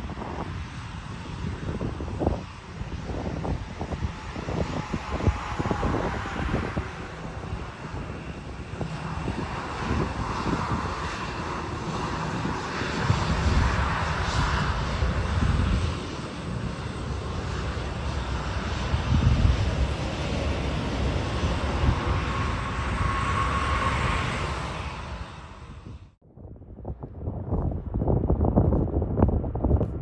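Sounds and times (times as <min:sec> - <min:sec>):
jet engine rumble and hiss: 0:00.0 - 0:26.2
wind buffeting microphone: 0:00.0 - 0:30.0.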